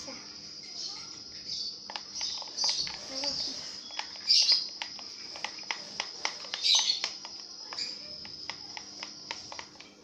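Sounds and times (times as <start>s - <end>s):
stirrer clicks and taps: 1.8s - 10.0s.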